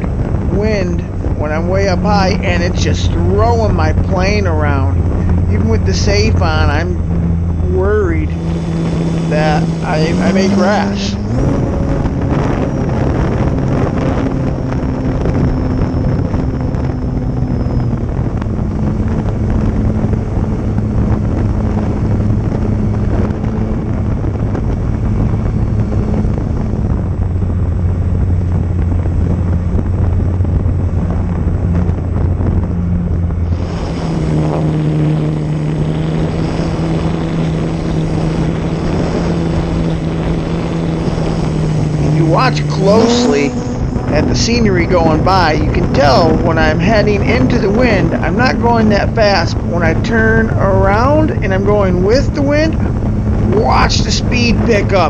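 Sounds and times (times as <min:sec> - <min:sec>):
model airplane motor and propeller: 0:00.0 - 0:55.0
wind noise: 0:00.0 - 0:55.0.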